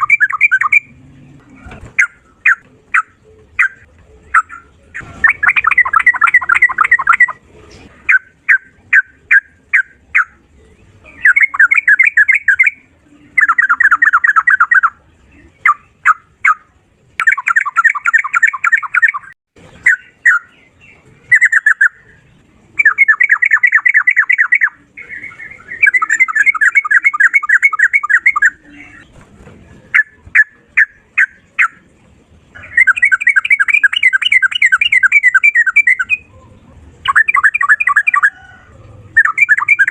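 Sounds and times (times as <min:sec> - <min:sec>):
bird singing rapid notes: 0:00.0 - 0:01.0, 0:01.8 - 0:07.4, 0:08.1 - 0:29.2, 0:29.9 - 0:31.9, 0:32.5 - 0:36.4, 0:37.0 - 0:38.5, 0:39.1 - 0:39.9.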